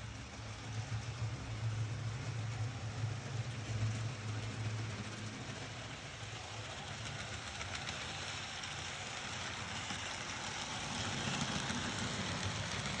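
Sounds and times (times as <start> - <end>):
model train motor hum: 0.0 - 13.0
train wheel rumble: 0.0 - 13.0.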